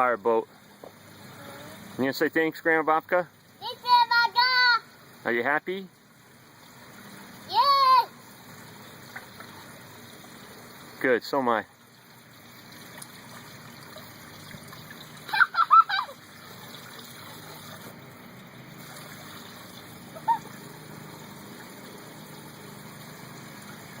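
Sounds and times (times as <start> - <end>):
water running and trickling: 0.0 - 24.0.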